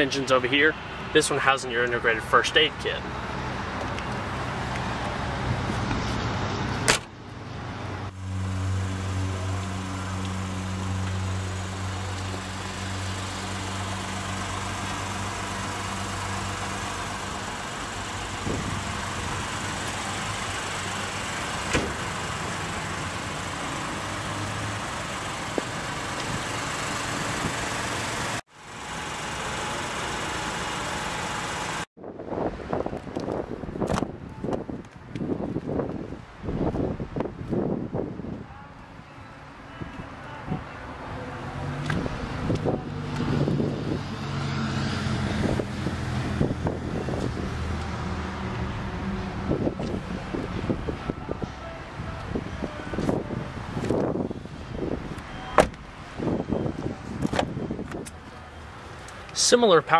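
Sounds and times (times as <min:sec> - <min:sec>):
outdoor ambient noise: 0:00.0 - 0:59.9.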